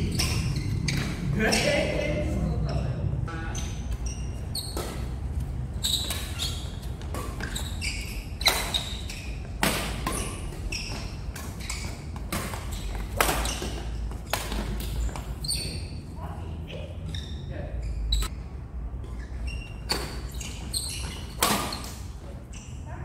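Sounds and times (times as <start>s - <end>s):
shoes squeaking on court floor: 0.0s - 16.1s, 16.7s - 18.4s, 19.0s - 22.9s.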